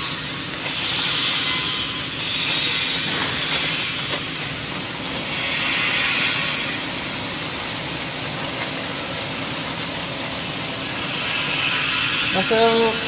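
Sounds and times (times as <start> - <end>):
machinery hiss: 0.0 - 13.0.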